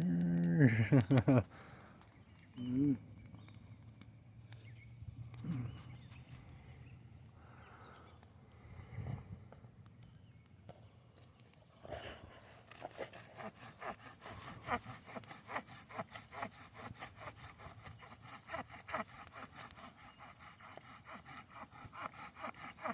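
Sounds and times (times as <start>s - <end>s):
campfire crackling and popping: 0.0s - 19.9s.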